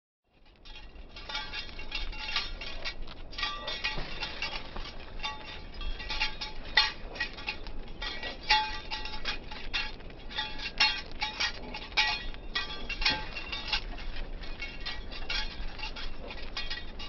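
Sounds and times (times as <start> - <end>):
dog harness hardware jingling: 0.7 - 17.0.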